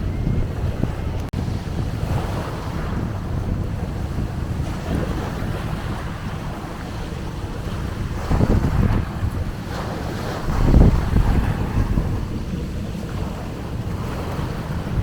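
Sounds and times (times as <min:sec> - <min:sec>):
sea surf washing ashore: 0:00.0 - 0:15.0
wind buffeting microphone: 0:00.0 - 0:15.0.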